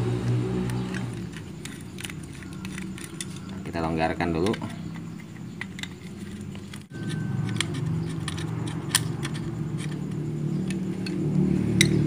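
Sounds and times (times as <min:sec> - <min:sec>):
screwdriver metallic clicks and scrapes: 0:00.6 - 0:12.0.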